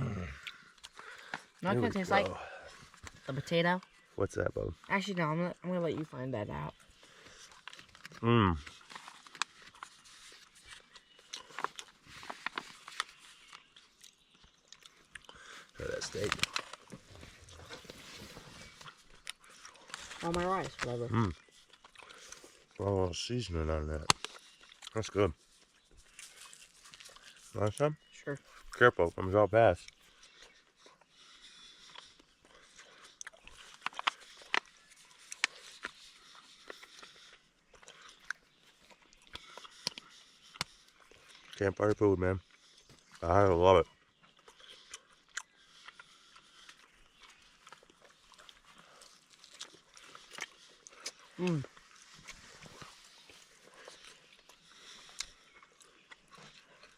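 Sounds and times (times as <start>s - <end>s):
person chewing food: 0.0s - 4.9s, 6.7s - 23.0s, 24.0s - 28.8s, 29.8s - 41.6s, 42.4s - 43.3s, 43.9s - 56.9s.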